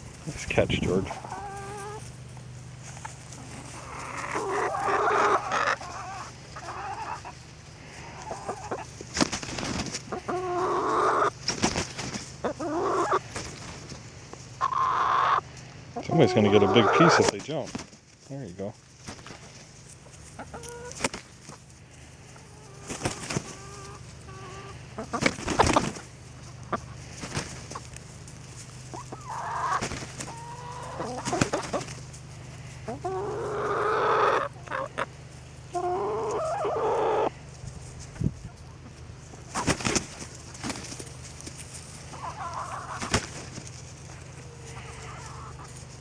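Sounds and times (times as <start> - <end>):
hens clucking and squawking: 0.0 - 46.0.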